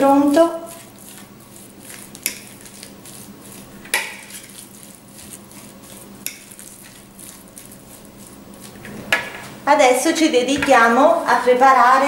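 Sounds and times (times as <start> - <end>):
utensil mixing in glass bowl: 0.0 - 12.0.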